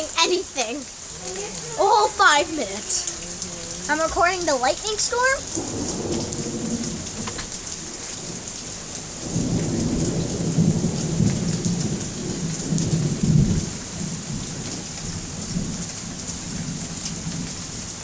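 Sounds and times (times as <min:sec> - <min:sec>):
heavy rain falling: 0:00.0 - 0:18.0
rolling thunder rumble: 0:01.9 - 0:17.9.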